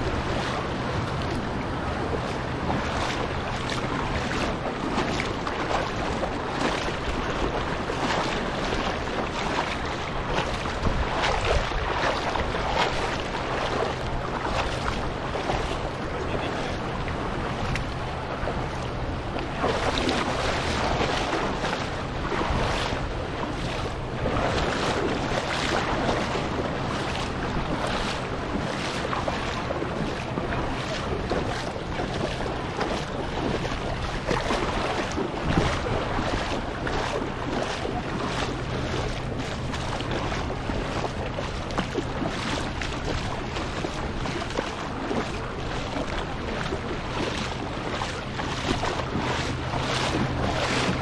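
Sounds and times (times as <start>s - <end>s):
water splashing from wading: 0.0s - 51.0s
wind buffeting microphone: 0.0s - 51.0s.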